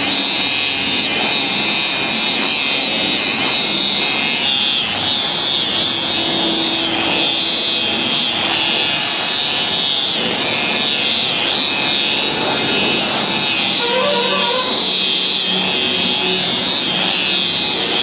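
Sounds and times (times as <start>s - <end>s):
electric car polisher whining: 0.0s - 18.0s.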